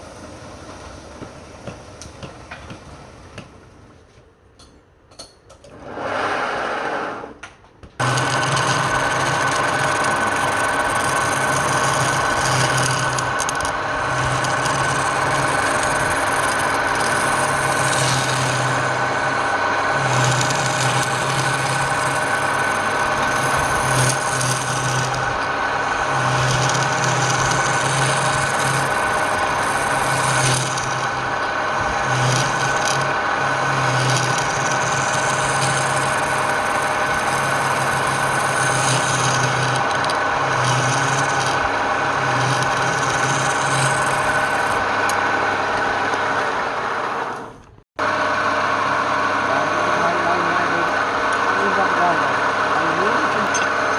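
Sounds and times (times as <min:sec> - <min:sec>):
lathe motor hum: 0:08.0 - 0:53.9
tool scraping spinning wood: 0:08.0 - 0:53.9.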